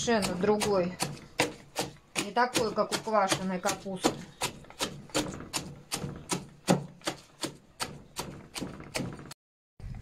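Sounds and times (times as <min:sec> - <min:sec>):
chopper chopping vegetables in trough: 0:00.0 - 0:09.4.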